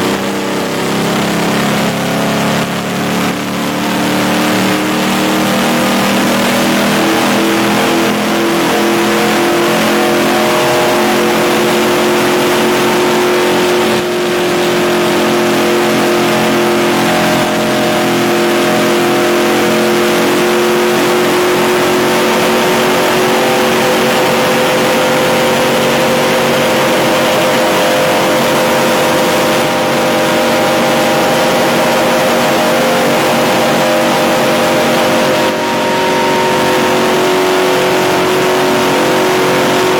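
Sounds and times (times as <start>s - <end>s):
race truck engine at high revs: 0.0s - 39.9s.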